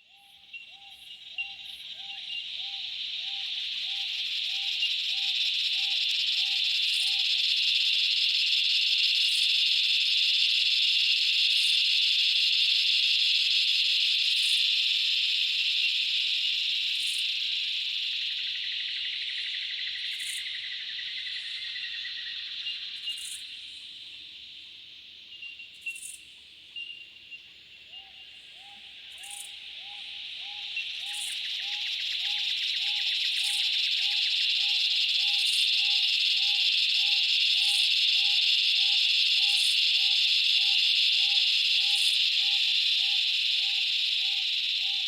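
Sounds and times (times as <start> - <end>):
cicadas droning: 0.0 - 45.0.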